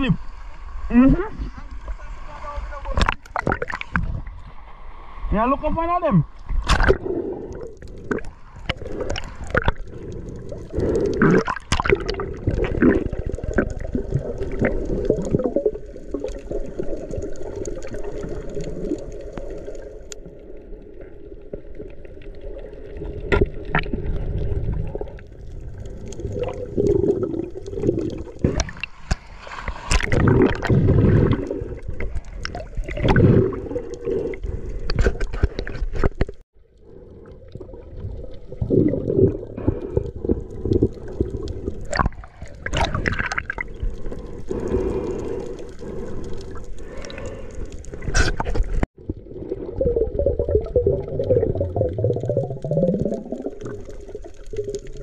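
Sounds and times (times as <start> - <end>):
muffled water gurgling and sloshing: 0.0 - 55.0.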